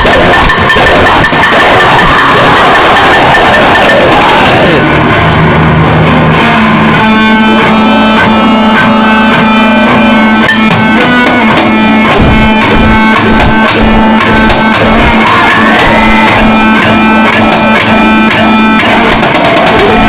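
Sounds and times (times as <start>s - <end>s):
shrill tones: 0.0s - 5.3s, 6.3s - 20.0s
harsh distorted noise drone: 0.0s - 20.0s.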